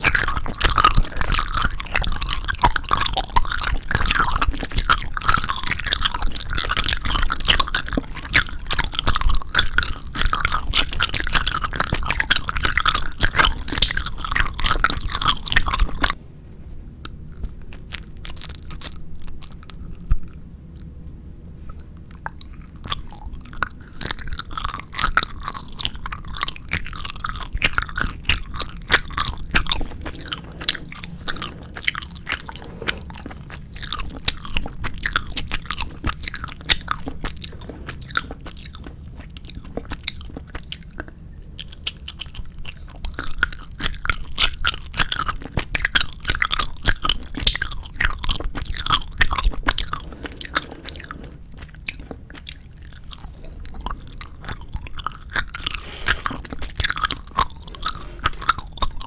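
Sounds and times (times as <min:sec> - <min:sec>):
chewing jelly candies: 0:00.0 - 0:16.2, 0:17.0 - 0:59.0.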